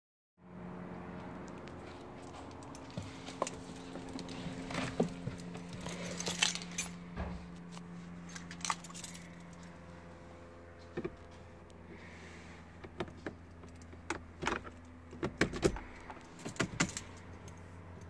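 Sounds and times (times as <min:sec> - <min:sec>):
car engine idling: 0:00.5 - 0:18.0.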